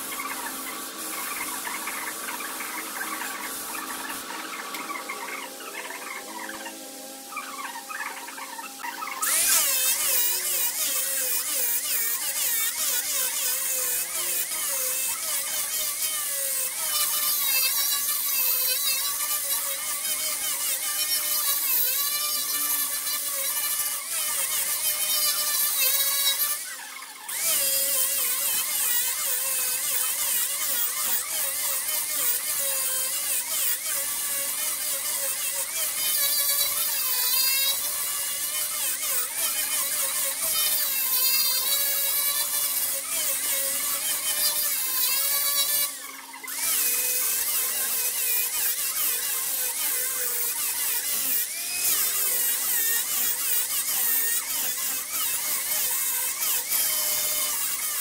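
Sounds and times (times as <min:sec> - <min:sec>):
wood lathe tool cutting: 0:00.0 - 0:58.0.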